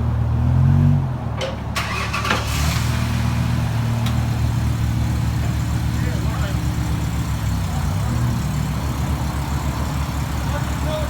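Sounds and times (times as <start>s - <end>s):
car engine idling: 1.4s - 11.0s.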